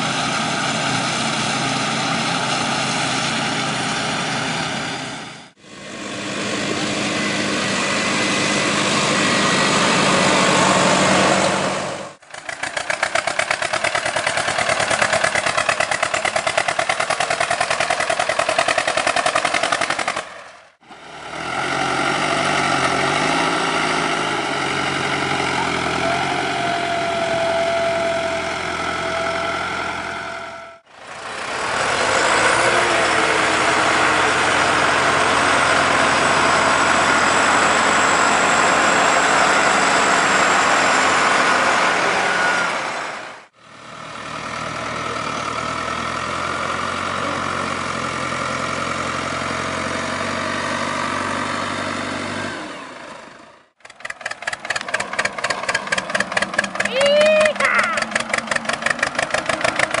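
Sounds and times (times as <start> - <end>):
diesel tractor engine running: 0.0 - 60.0.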